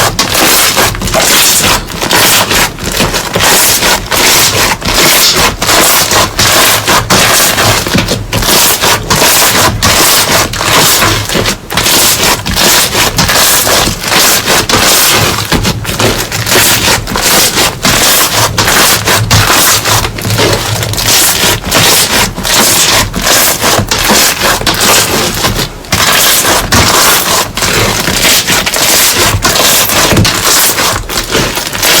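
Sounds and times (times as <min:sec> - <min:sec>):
crunchy slime squished: 0:00.0 - 0:32.0.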